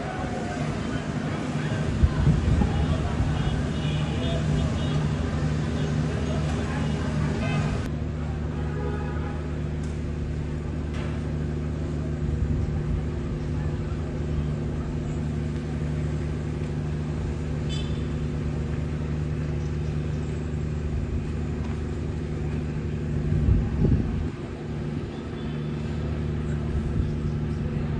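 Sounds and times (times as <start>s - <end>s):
engine running steadily: 0.0s - 27.9s.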